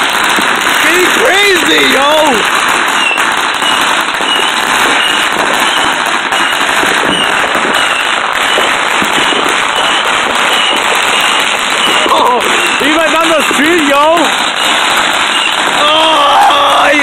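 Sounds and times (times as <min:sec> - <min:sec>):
firecrackers crackling and popping: 0:00.0 - 0:17.0.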